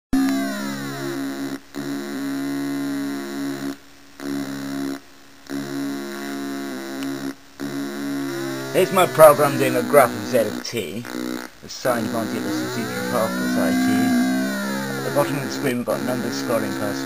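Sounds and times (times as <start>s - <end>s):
buzzy electronic tones: 0.1s - 17.0s.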